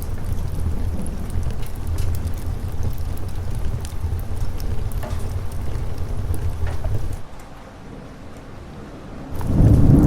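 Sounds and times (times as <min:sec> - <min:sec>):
low roll of thunder: 0:00.0 - 0:07.2, 0:08.9 - 0:10.0
rain hissing: 0:00.0 - 0:10.0.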